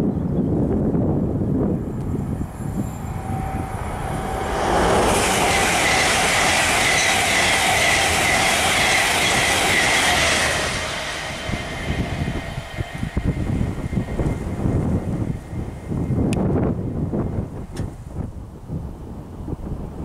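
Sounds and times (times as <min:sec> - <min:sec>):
high-speed train passing: 0:00.5 - 0:20.0.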